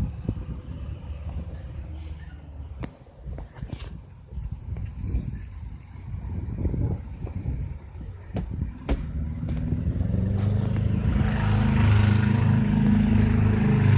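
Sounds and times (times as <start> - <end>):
vehicle engine approaching: 0.0 - 2.8, 4.4 - 13.9.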